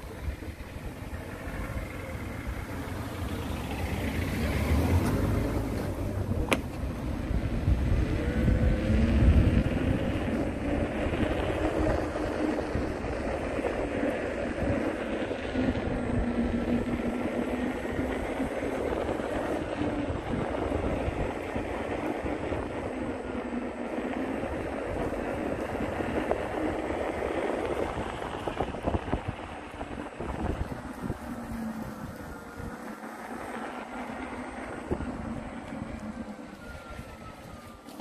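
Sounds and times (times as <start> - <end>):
faint whine: 0.0 - 38.0
street and vehicle noise: 0.0 - 38.0
wind rumbling on microphone: 0.0 - 38.0.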